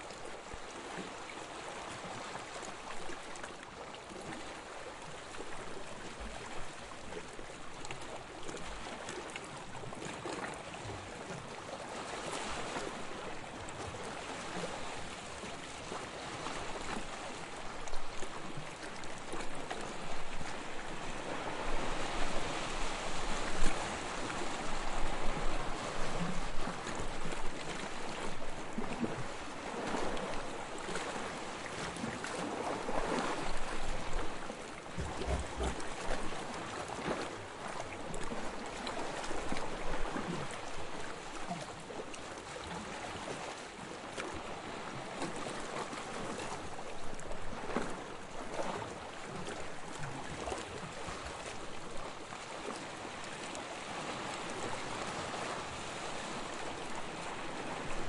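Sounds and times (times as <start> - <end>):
sea waves washing ashore: 8.5 - 58.0.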